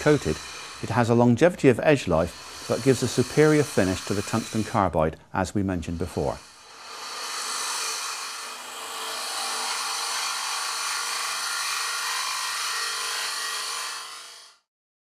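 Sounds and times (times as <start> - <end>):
lathe cutter hissing on wood: 0.0 - 5.0, 5.6 - 14.6.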